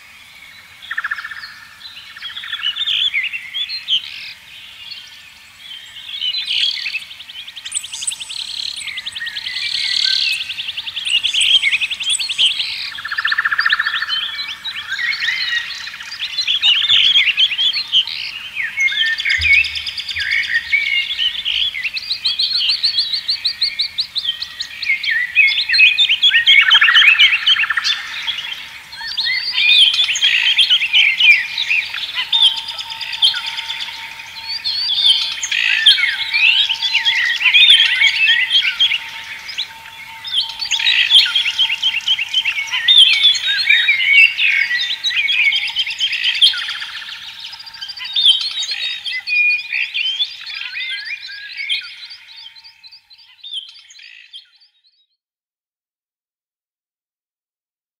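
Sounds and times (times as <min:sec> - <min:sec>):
songbirds chirping and trilling: 0:00.0 - 0:55.1.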